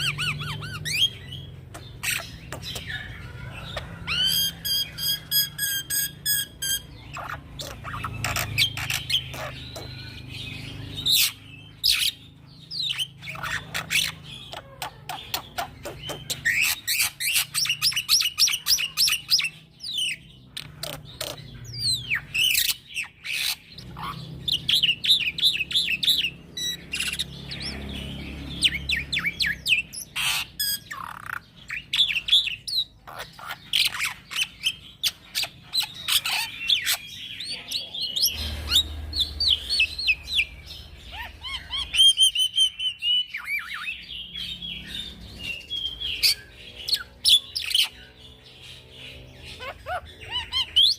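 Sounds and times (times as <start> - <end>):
starling singing: 0.0 - 50.9.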